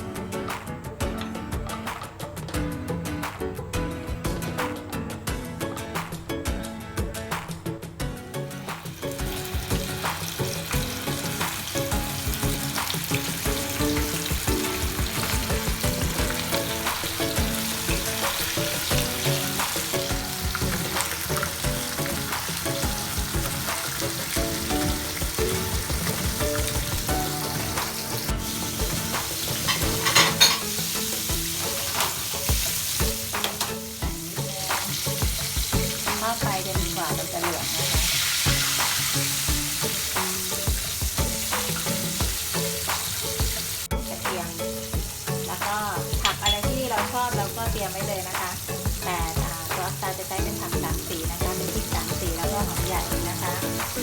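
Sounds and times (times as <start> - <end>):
fish deep-frying in oil: 8.5 - 54.0.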